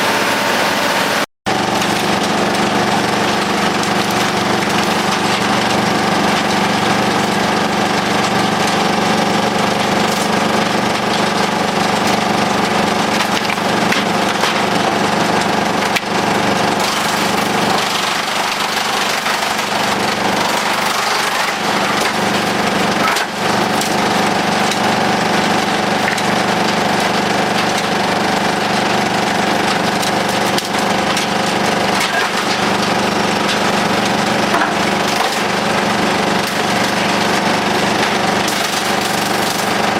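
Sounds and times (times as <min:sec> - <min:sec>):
chipper drum spinning: 0:00.0 - 0:39.9
tractor engine drone: 0:00.0 - 0:39.9
wood cracking and splintering: 0:01.5 - 0:39.9.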